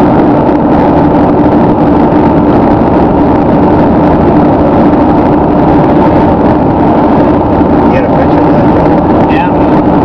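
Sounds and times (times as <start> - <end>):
car road and engine noise: 0.0 - 10.0
constant low hum: 0.0 - 10.0.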